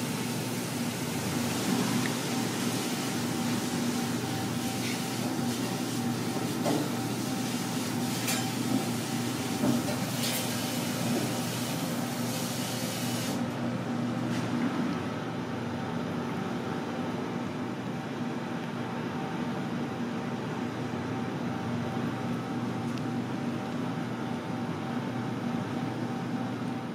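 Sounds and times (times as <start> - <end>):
ventilation hum with hiss: 0.0 - 26.9.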